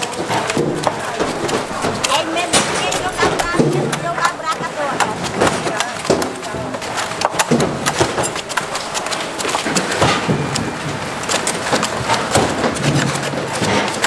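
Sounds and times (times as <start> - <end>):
busy background noise: 0.0 - 14.0
sharp knocks and clatter: 0.0 - 14.0.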